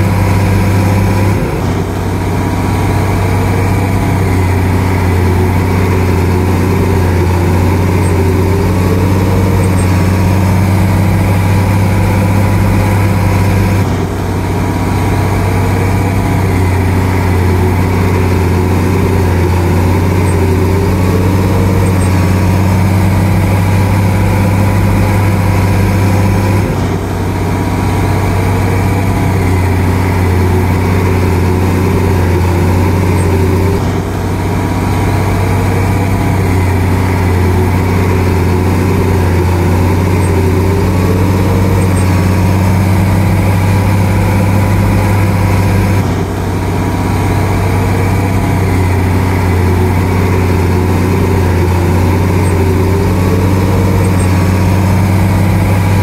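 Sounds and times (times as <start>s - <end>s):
bulldozer diesel engine humming: 0.0s - 56.0s.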